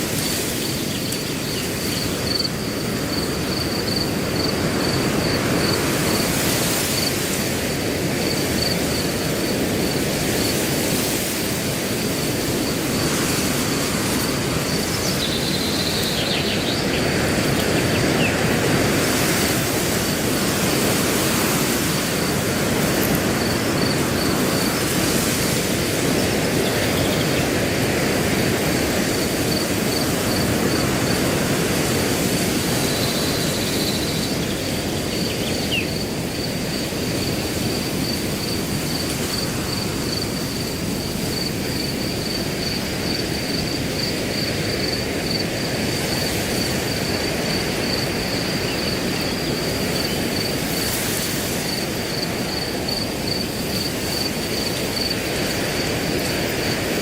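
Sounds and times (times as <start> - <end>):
wind blowing through grass: 0.0 - 57.0.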